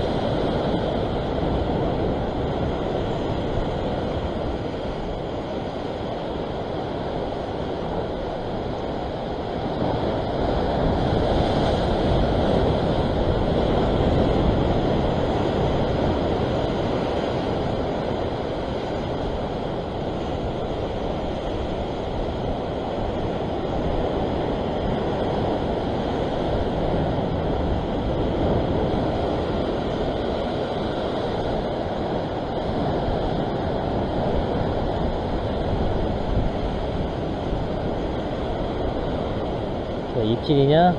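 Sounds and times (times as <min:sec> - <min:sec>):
sea surf washing against rocks: 0:00.0 - 0:40.9.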